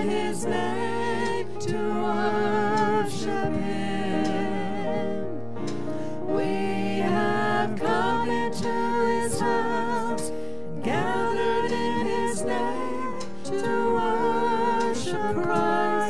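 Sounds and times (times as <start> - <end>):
man and woman singing: 0.0 - 5.4, 6.2 - 16.0
keyboard accompaniment: 0.0 - 16.0.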